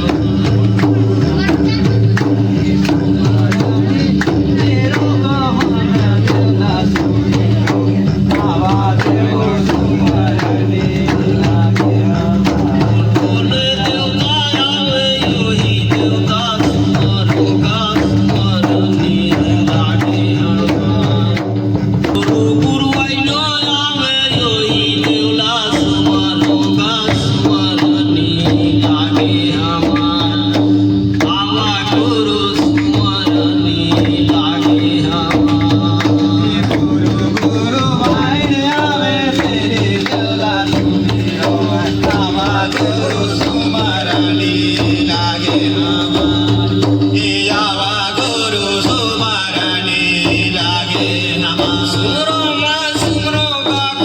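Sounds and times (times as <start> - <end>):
hand drums: 0.0 - 54.0.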